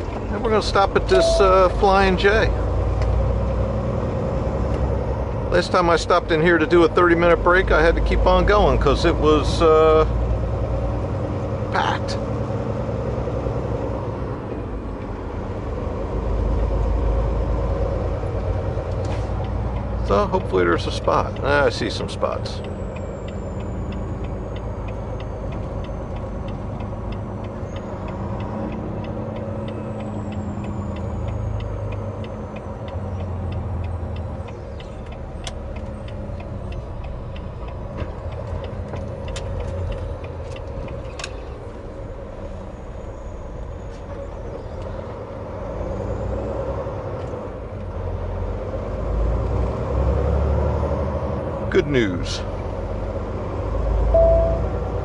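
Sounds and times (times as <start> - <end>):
diesel truck engine rumbling: 0.0 - 55.0
turn signal ticking: 0.0 - 55.0.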